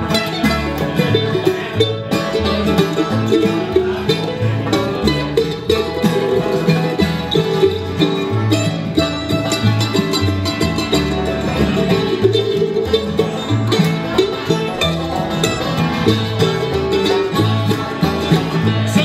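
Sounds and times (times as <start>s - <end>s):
acoustic guitar and mandolin: 0.0s - 19.0s
banjo picking: 0.0s - 19.0s
upright bass plucking: 0.0s - 19.0s.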